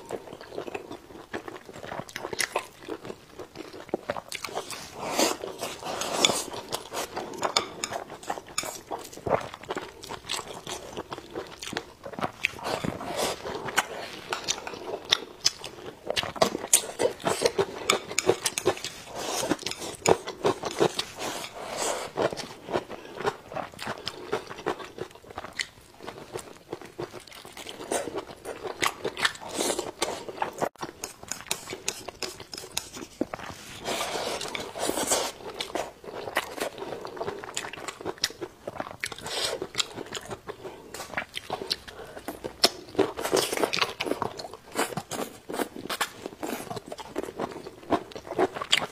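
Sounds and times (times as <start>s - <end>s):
wet chewing and crunching: 0.0s - 48.9s.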